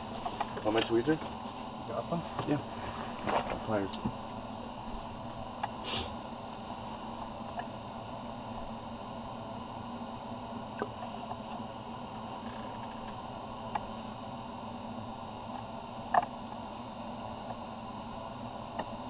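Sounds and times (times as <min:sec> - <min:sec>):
propane heater hissing: 0:00.0 - 0:19.0.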